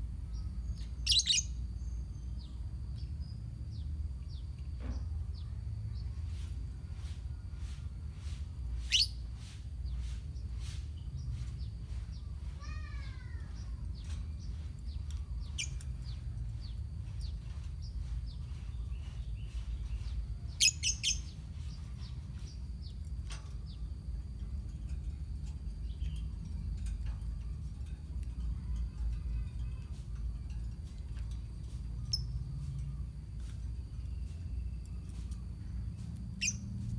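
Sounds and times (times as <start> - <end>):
steady low hum: 0.0 - 36.9
lovebirds chirping: 0.2 - 7.4, 8.8 - 36.9.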